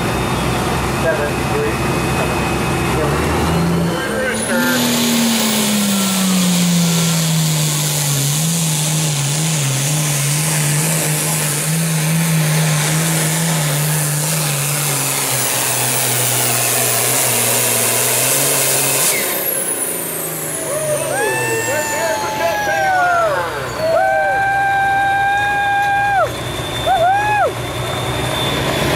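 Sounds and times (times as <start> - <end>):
diesel engine running hard under load: 0.0 - 28.9.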